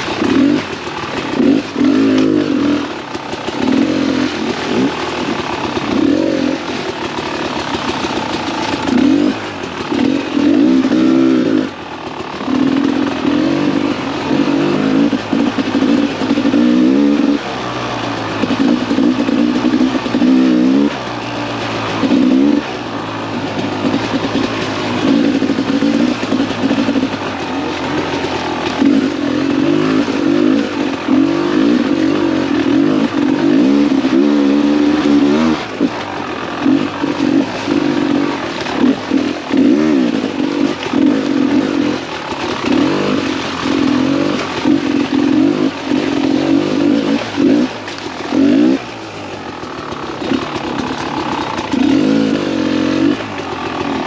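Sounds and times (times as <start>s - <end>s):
two-stroke motorcycle revving: 0.0s - 54.0s.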